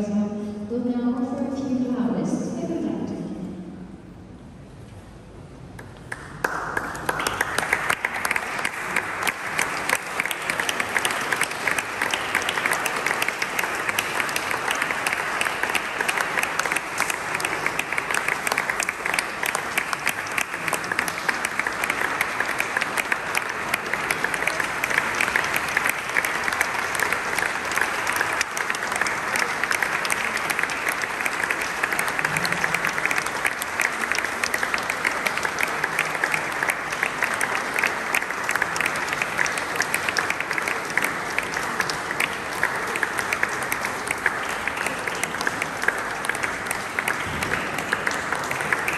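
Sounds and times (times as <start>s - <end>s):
audience applauding: 5.8s - 48.9s.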